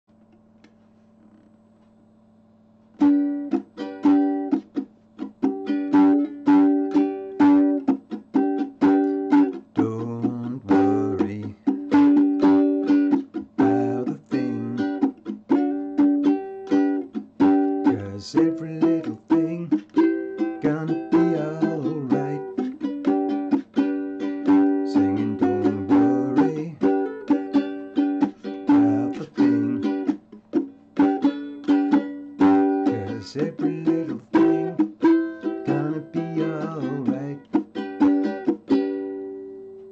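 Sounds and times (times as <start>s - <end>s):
ukulele strumming: 3.0s - 39.9s.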